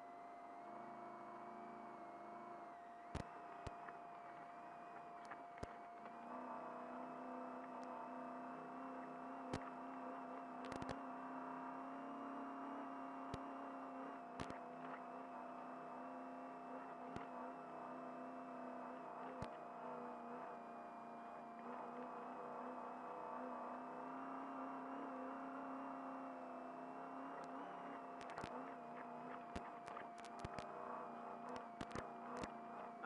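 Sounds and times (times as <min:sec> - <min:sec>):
steady whine: 0:00.0 - 0:33.0.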